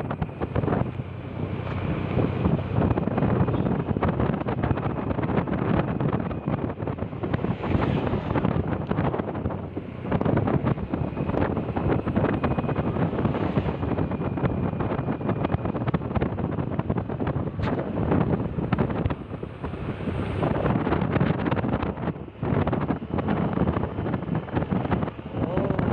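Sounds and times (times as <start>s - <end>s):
vehicle running: 0.0s - 25.9s
wind buffeting microphone: 0.0s - 25.9s.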